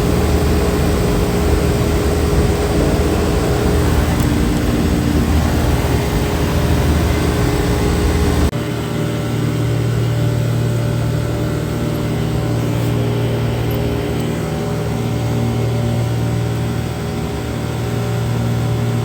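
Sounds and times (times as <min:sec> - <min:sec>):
condensing unit hum: 0:00.0 - 0:19.0.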